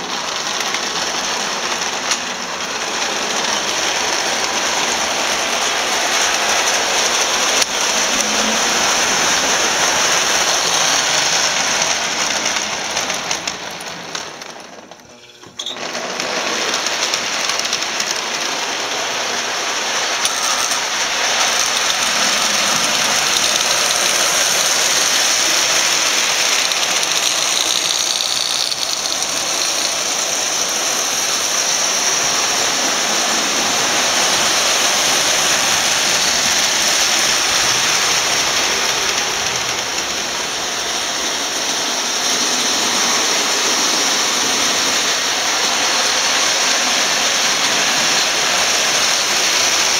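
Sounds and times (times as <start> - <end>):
toy trains rattling on track: 0.0 - 49.9.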